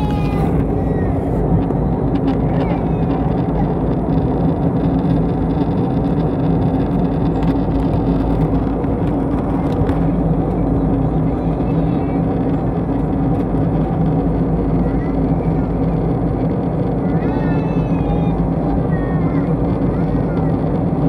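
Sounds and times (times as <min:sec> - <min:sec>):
airliner cabin engine drone: 0:00.0 - 0:21.0
constant low hum: 0:00.0 - 0:21.0.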